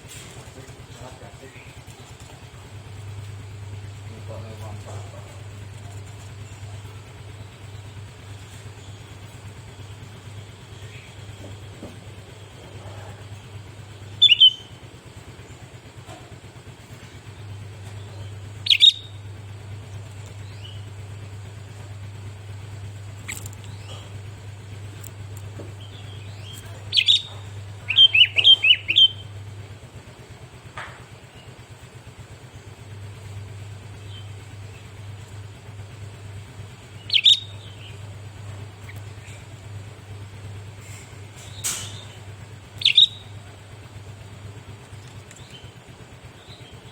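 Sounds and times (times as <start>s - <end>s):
steady low hum: 0.0s - 46.9s
bird chirping: 2.9s - 14.8s, 17.0s - 29.6s, 32.5s - 46.9s.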